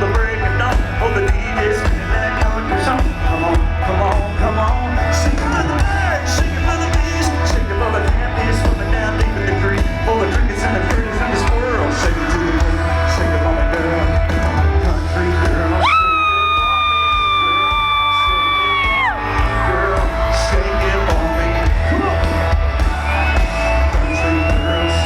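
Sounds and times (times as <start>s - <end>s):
live country-rock band: 0.0s - 25.0s.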